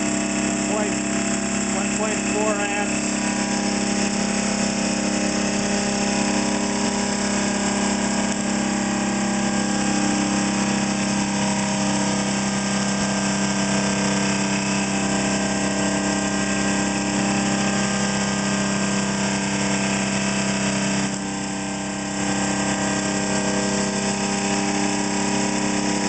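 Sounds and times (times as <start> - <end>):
generator motor humming and whirring: 0.0 - 26.0.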